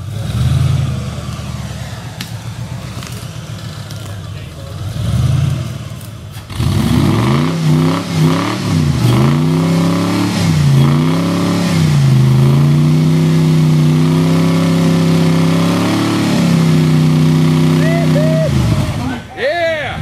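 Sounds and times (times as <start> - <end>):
truck engine revving: 0.0 - 19.3.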